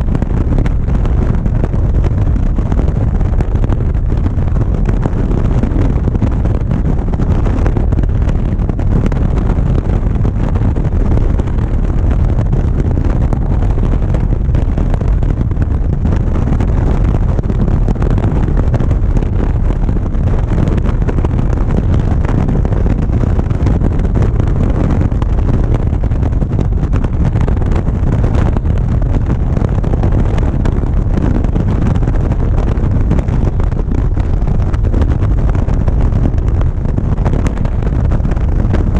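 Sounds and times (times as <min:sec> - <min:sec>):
motorcycle engine running: 0:00.0 - 0:38.9
road noise: 0:00.0 - 0:38.9
wind rumble on microphone: 0:00.0 - 0:38.9.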